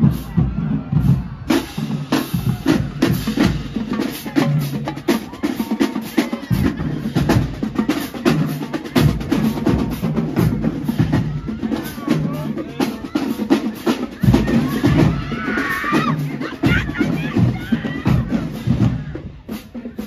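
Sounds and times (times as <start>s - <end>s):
bass drums: 0.0s - 20.0s
snare drums: 0.0s - 20.0s.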